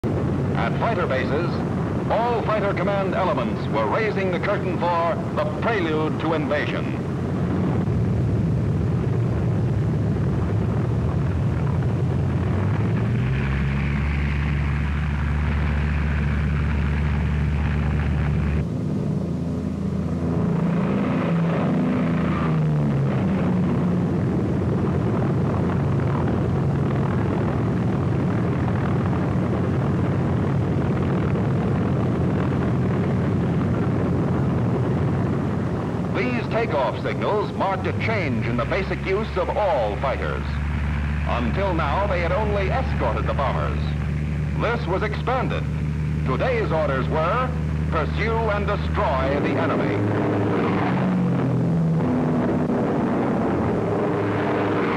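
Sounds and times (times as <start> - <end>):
propeller plane engines droning: 0.0 - 54.9.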